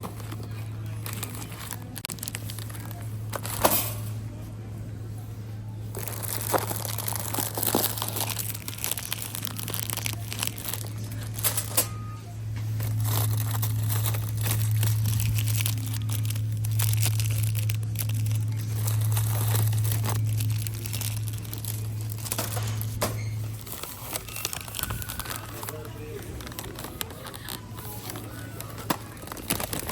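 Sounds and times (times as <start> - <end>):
plastic wrappers crinkling: 0.0 - 4.0, 5.8 - 29.9
low hum: 0.0 - 29.9.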